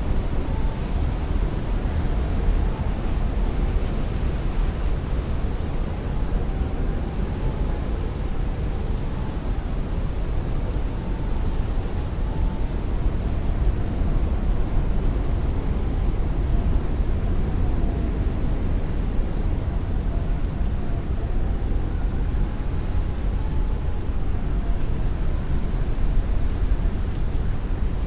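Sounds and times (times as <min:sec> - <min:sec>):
heavy rain on window: 0:00.3 - 0:28.0.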